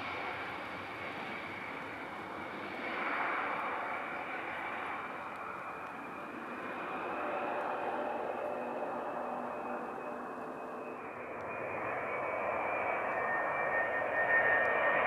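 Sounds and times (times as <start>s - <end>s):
airliner engines whining: 0.0s - 15.0s.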